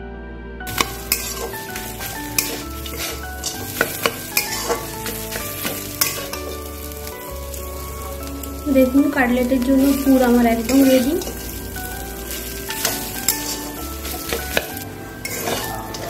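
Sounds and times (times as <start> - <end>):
soft instrumental music: 0.0 - 16.0
metal spatula scraping a pan: 0.7 - 8.6, 9.6 - 16.0.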